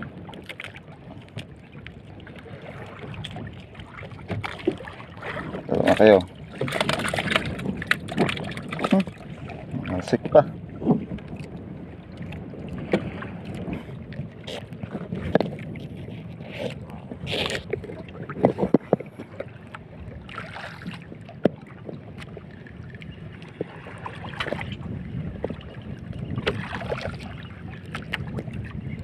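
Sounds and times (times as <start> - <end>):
water washing against boat: 0.0 - 29.0
wind on microphone: 0.0 - 29.0.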